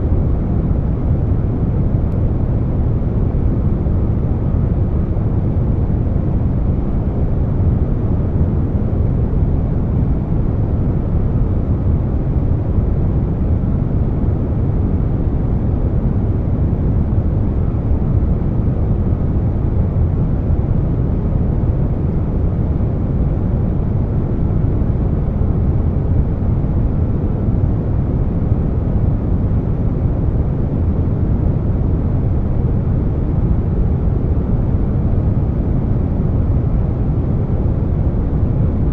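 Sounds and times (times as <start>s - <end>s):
air conditioner rumble and hiss: 0.0s - 38.9s.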